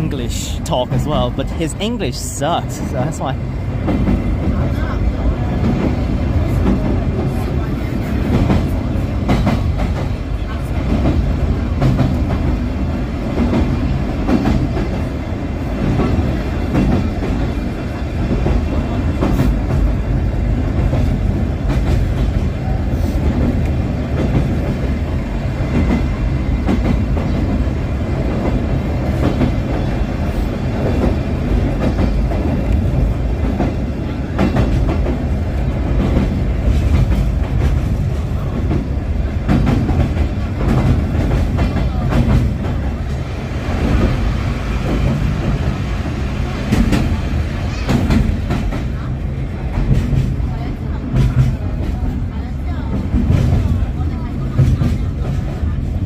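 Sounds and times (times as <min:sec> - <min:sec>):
diesel locomotive drone: 0:00.0 - 0:56.0
train wheels rumbling on rail: 0:00.0 - 0:56.0.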